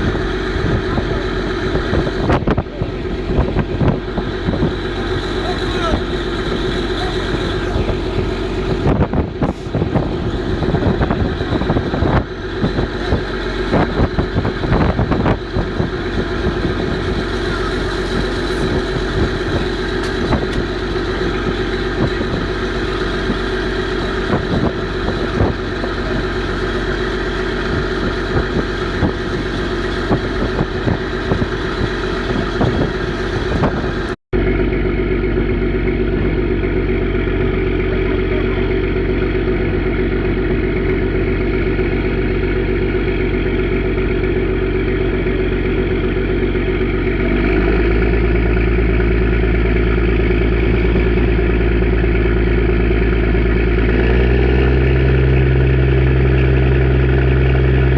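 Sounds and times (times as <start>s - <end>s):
boat engine drone: 0.0s - 57.9s.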